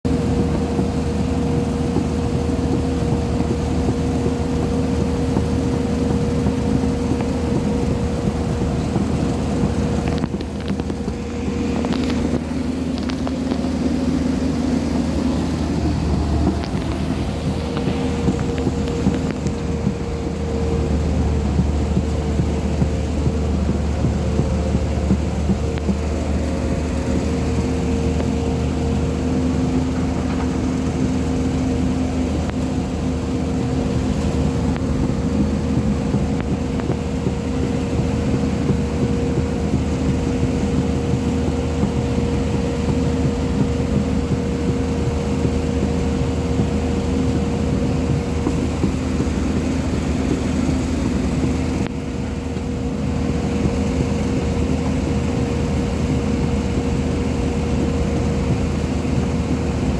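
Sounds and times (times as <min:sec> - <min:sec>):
excavator diesel engine drone: 0:00.0 - 0:59.9
hydraulic whine: 0:00.1 - 0:59.9.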